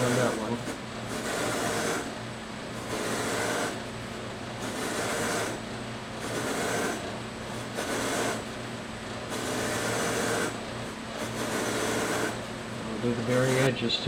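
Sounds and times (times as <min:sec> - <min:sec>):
buffing wheel motor running: 0:00.0 - 0:13.8.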